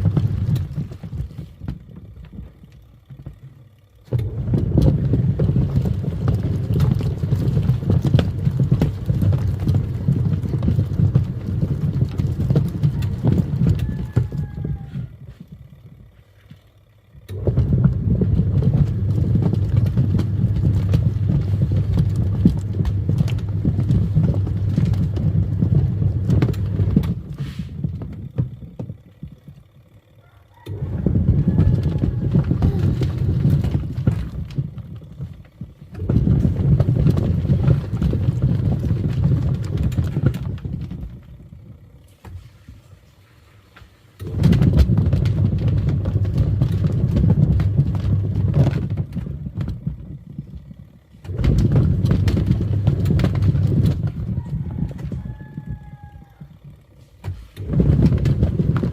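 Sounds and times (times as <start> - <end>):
washing machine motor hum: 0.0 - 58.9.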